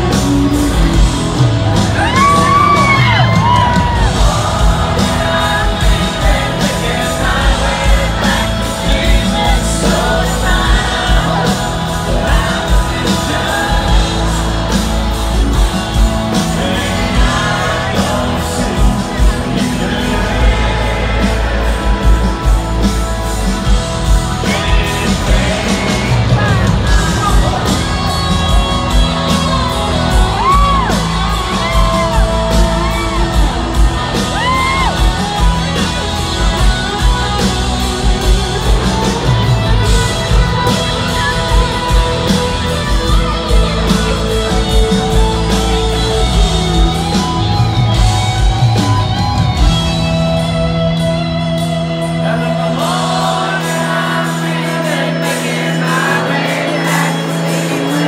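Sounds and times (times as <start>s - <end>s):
person singing: 0.0s - 22.8s, 23.6s - 49.9s, 50.9s - 58.0s
crowd shouting: 0.0s - 58.0s
electric guitar lead: 0.0s - 58.0s
live rock band playing: 0.0s - 58.0s.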